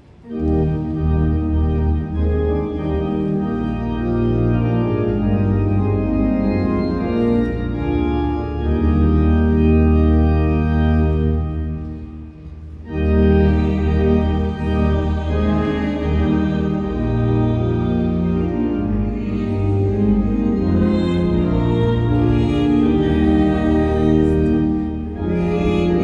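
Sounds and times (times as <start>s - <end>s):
organ playing hymn chords: 0.0s - 26.0s.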